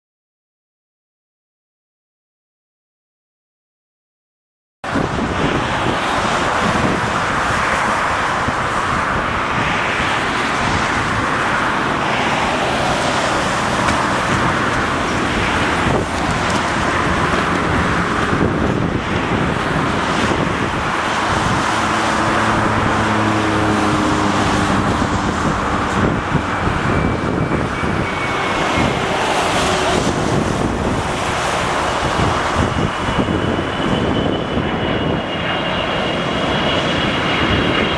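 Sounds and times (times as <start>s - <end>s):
jet engines roaring: 4.8s - 37.9s
traffic: 4.8s - 37.9s
wind: 4.8s - 37.9s.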